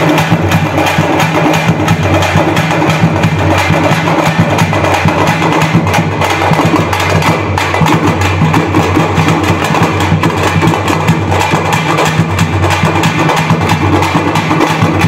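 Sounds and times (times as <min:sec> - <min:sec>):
frame drums beaten with sticks: 0:00.0 - 0:15.0.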